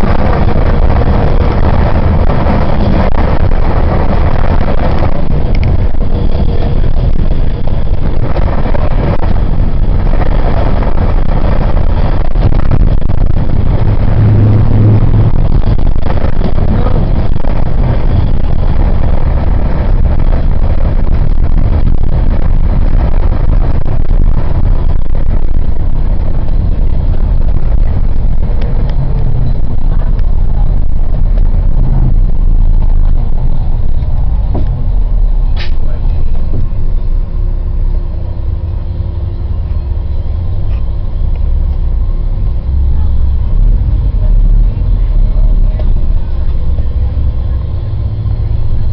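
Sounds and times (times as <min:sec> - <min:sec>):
vehicle engine and tyre rumble: 0:00.0 - 0:48.9.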